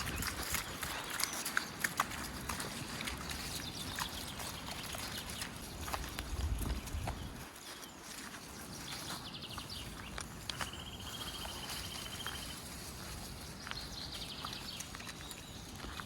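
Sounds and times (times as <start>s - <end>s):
footsteps on muddy trail: 0.0s - 16.0s.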